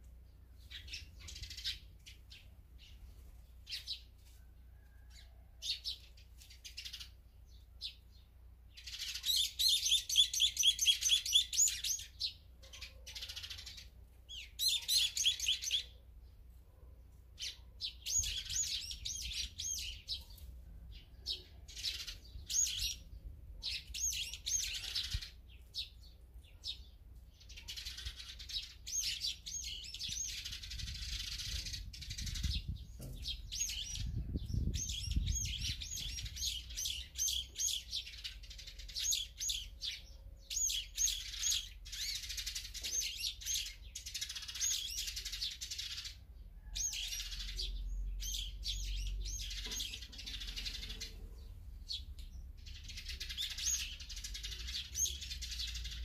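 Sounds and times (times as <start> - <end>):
songbirds chirping and twittering: 0.0 - 56.0.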